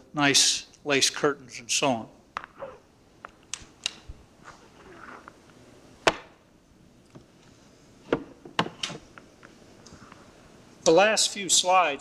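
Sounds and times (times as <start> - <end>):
faint tape hiss: 0.0 - 12.0.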